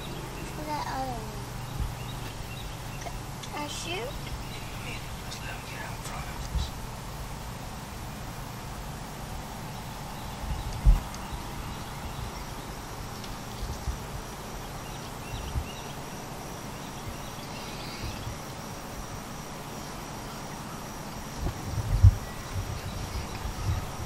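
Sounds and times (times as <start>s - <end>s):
faint birds: 0.0s - 24.0s
faint insects: 0.0s - 24.0s.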